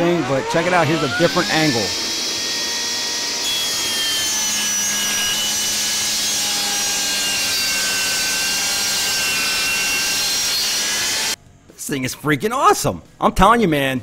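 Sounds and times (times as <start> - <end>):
table saw cutting plywood: 0.0 - 11.4.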